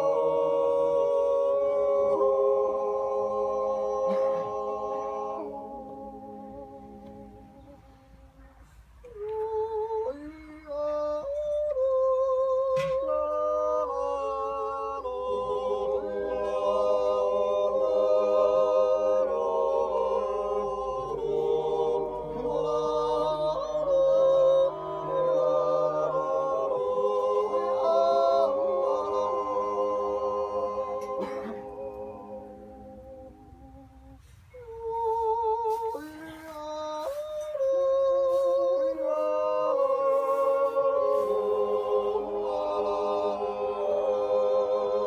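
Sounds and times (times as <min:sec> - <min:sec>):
group yodelling in harmony: 0:00.0 - 0:08.4, 0:09.0 - 0:45.0.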